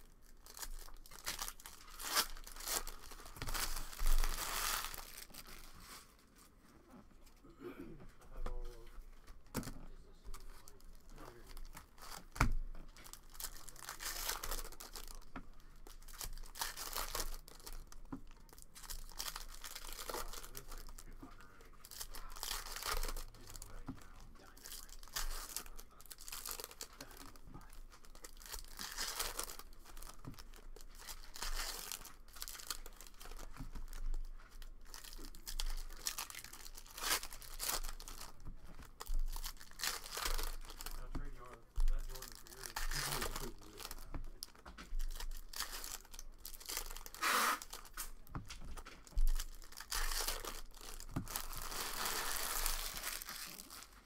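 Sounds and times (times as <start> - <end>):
foil wrappers tearing and crinkling: 0.0 - 6.1, 10.3 - 54.0.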